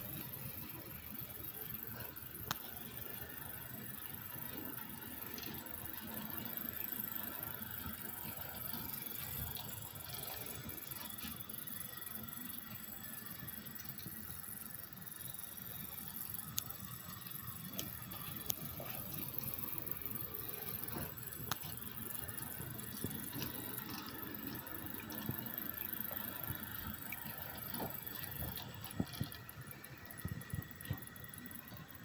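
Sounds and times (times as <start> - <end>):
model train rolling on track: 0.0 - 32.0
sharp track clicks: 0.0 - 32.0.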